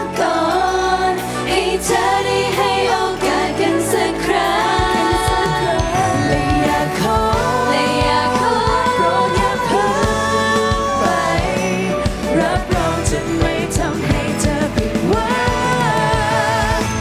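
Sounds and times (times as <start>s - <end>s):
person singing: 0.0s - 17.0s
pop backing track with drum beat: 0.0s - 17.0s.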